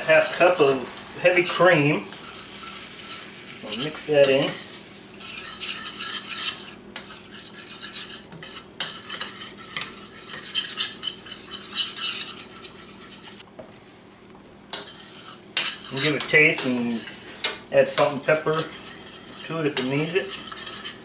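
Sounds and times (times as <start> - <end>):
utensil scraping a frying pan: 0.0 - 13.5, 14.7 - 21.0.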